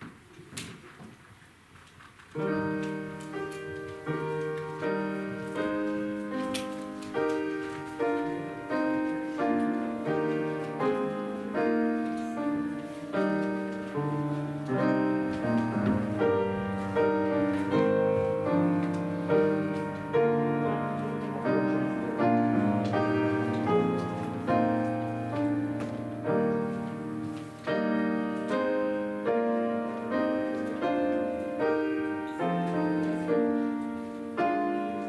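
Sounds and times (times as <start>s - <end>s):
slow piano chords: 2.3s - 35.0s.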